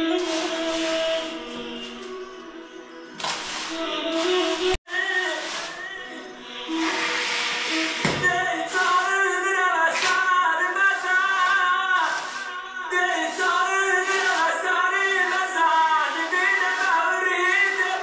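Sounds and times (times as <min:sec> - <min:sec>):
music: 0:00.0 - 0:18.0
person singing: 0:00.0 - 0:18.0.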